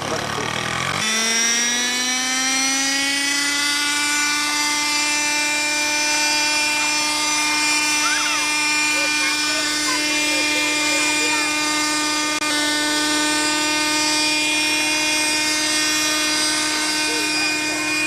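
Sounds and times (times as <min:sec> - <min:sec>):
model aircraft engine buzzing: 0:00.0 - 0:18.0.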